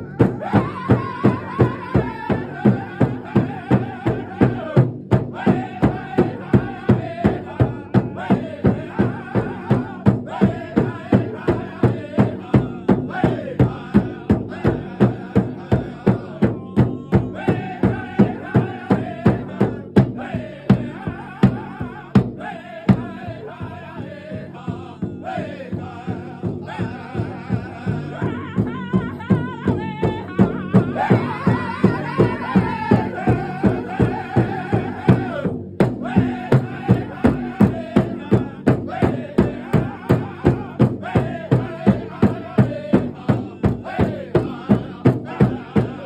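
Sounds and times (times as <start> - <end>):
large drum beating: 0.0 - 46.0
men singing in high voices: 0.0 - 46.0.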